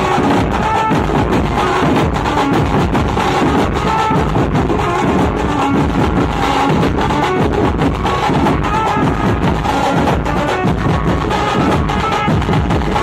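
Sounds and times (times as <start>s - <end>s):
barrel drums beaten with sticks: 0.0s - 13.0s.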